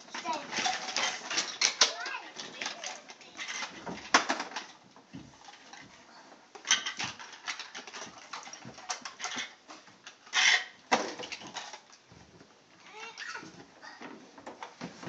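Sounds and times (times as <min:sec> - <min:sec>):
plastic toys clattering: 0:00.0 - 0:15.0.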